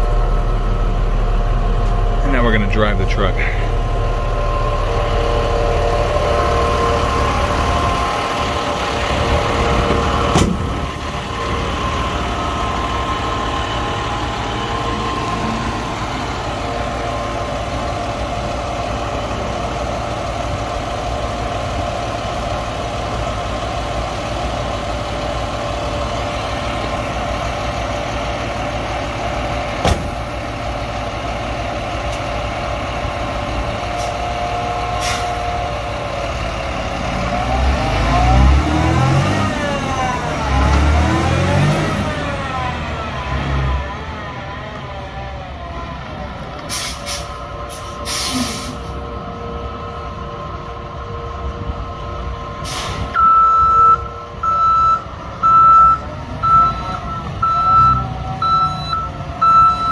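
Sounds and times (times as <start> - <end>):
diesel truck engine idling: 0.0 - 59.9
truck revving and pulling away: 0.0 - 59.9.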